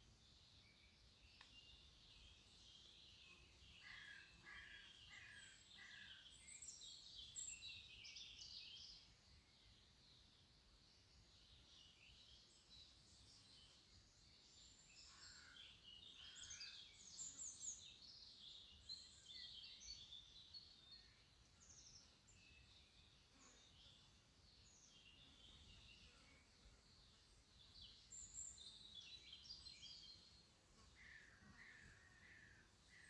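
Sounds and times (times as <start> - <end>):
birds chirping and twittering: 0.0 - 33.0.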